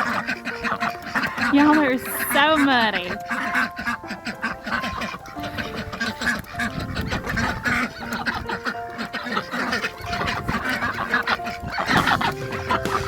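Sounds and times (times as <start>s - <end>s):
poultry clucking and calling: 0.0s - 13.0s
soft background music: 0.0s - 13.0s.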